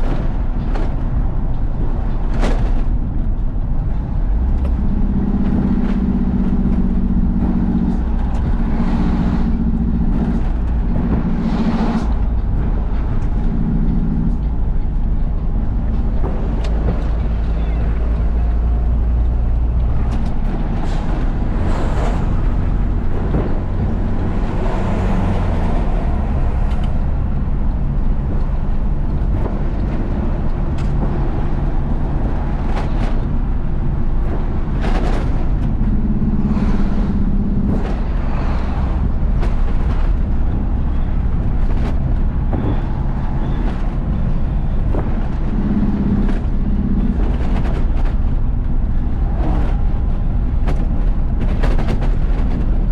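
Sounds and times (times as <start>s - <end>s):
road noise: 0.0s - 52.9s
truck diesel engine running: 0.0s - 52.9s.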